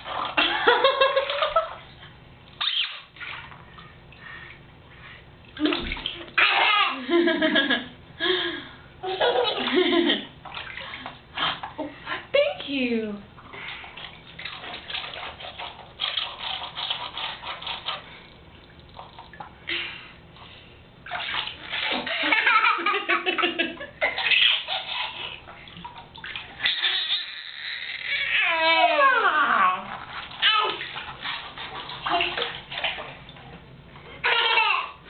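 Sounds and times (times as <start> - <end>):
bath water splashing: 0.0 - 7.8, 9.2 - 12.5, 13.4 - 20.0, 21.0 - 35.0.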